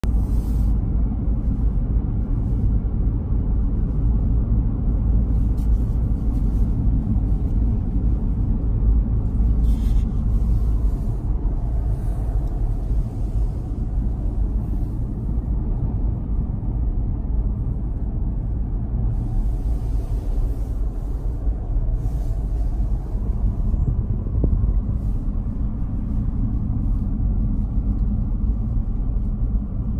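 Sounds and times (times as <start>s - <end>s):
car cabin road rumble: 0.0s - 29.9s.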